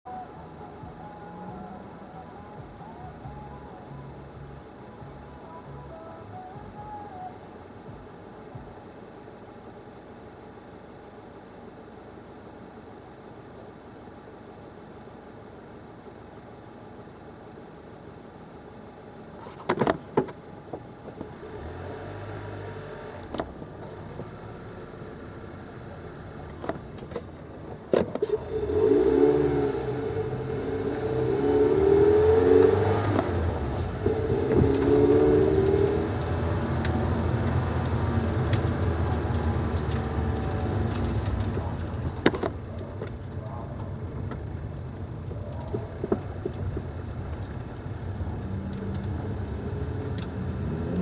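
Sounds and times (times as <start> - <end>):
car engine idling and accelerating: 0.0 - 51.0.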